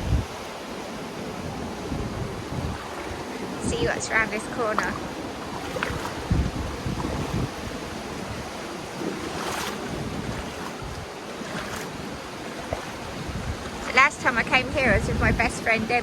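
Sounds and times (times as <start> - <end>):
sea waves breaking on shore: 0.0 - 16.0
wind buffeting microphone: 0.0 - 16.0.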